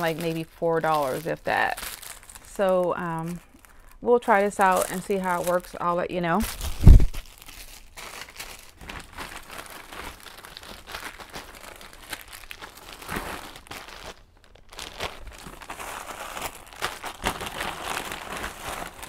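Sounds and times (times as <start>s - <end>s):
packaging crinkling: 0.0s - 19.0s.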